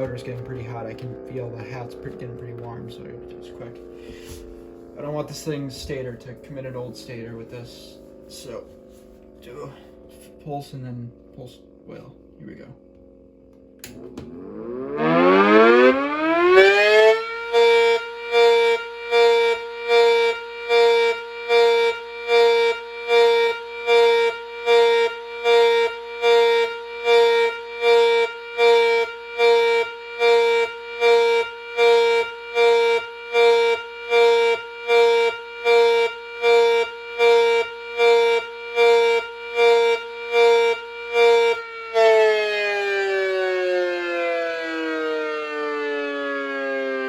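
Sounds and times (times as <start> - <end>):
pulsing siren tone: 0.0 - 47.0.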